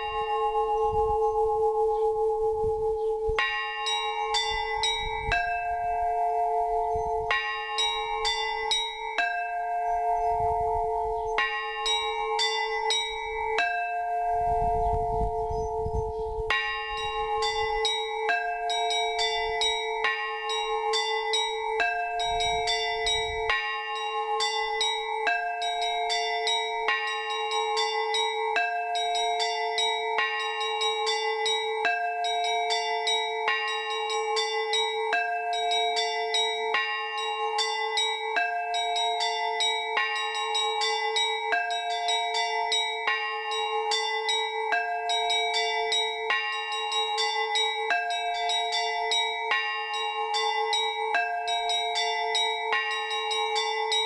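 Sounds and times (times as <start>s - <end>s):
large bells ringing: 0.0s - 54.0s
small high bells struck rhythmically: 0.0s - 54.0s.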